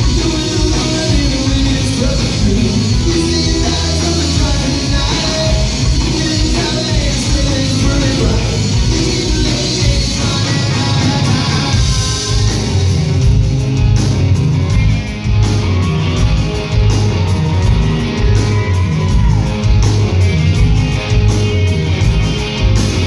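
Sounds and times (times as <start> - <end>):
bass: 0.0 - 23.0
drum kit with cymbal beat: 0.0 - 23.0
electric guitars: 0.0 - 23.0.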